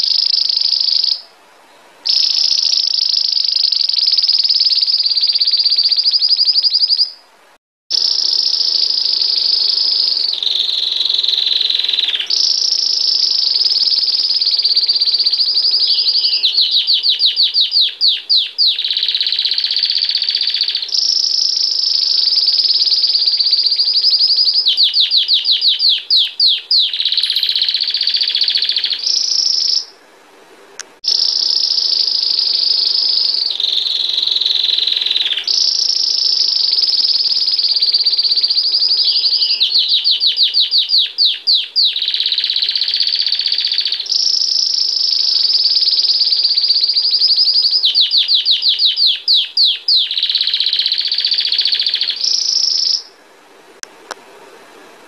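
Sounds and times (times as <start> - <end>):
canary singing trills: 0.0 - 1.4, 2.0 - 7.2, 7.9 - 30.0, 31.0 - 53.2.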